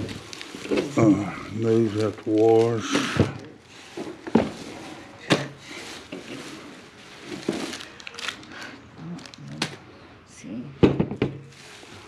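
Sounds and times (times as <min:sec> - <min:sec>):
rustling: 0:00.0 - 0:09.8, 0:11.5 - 0:12.0.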